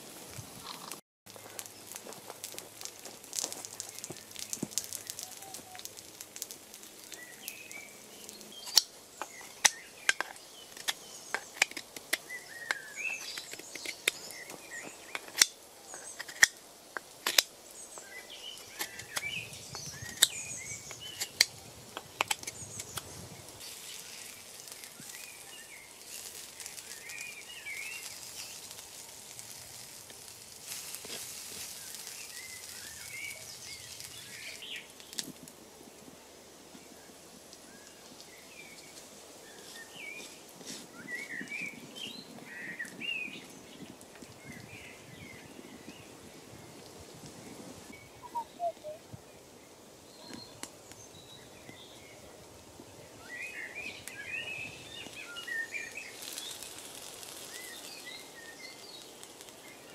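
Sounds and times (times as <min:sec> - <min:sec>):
small birds chirping: 0:00.6 - 0:35.4, 0:36.8 - 0:59.9.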